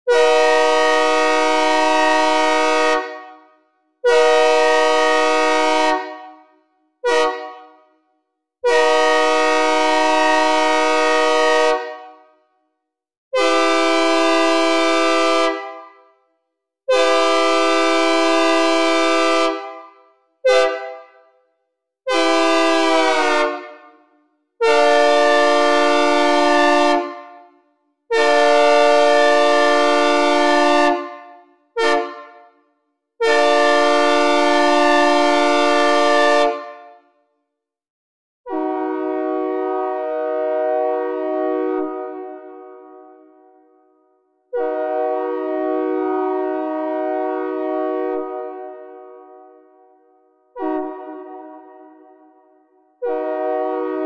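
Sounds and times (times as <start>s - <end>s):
locomotive air horn blasts: 0.0s - 7.9s, 8.6s - 12.3s, 13.4s - 16.1s, 16.9s - 21.3s, 22.1s - 27.4s, 28.1s - 31.1s, 31.8s - 32.4s, 33.2s - 36.7s, 38.5s - 43.4s, 44.5s - 49.8s, 50.5s - 52.3s, 53.0s - 54.0s.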